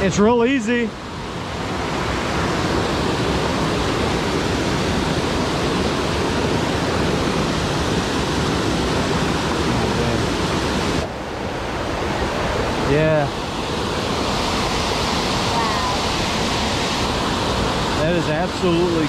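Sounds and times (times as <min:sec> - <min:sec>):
waterfall rushing water: 0:00.0 - 0:19.0.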